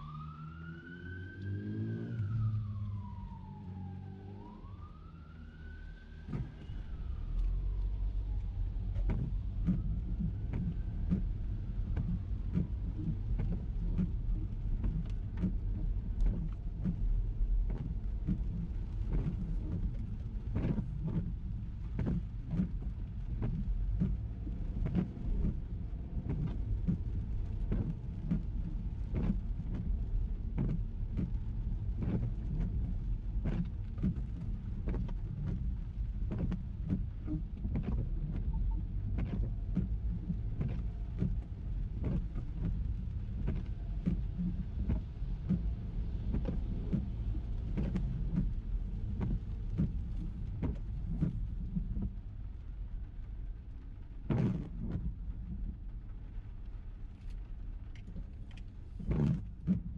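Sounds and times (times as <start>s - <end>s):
car road and engine rumble: 0.0s - 59.9s
raindrops striking car: 0.0s - 59.9s.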